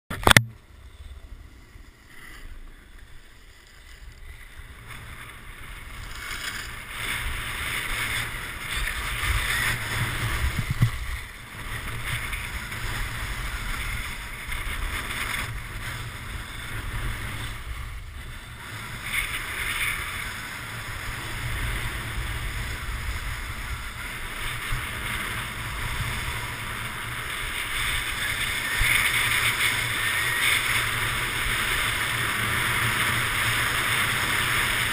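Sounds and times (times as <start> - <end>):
wind buffeting microphone: 3.9 - 34.9.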